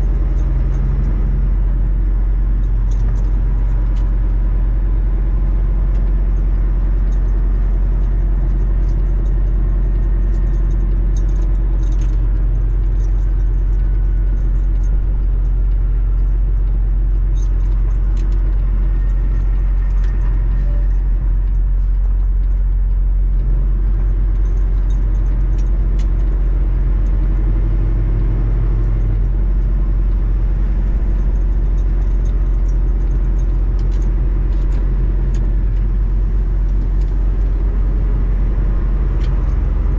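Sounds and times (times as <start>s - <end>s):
diesel truck engine rumble: 0.0s - 39.9s
light rattles and clicks: 0.0s - 39.9s.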